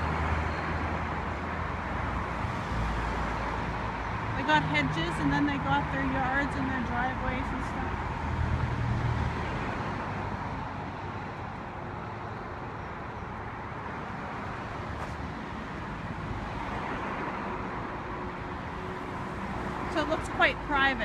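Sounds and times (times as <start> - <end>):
busy road traffic: 0.0 - 21.0.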